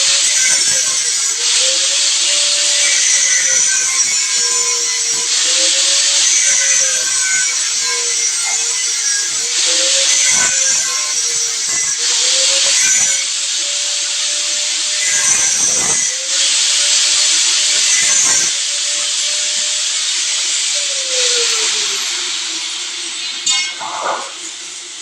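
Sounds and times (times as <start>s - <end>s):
gritty hiss of cutting: 0.0s - 25.0s
power tool motor running: 0.0s - 25.0s.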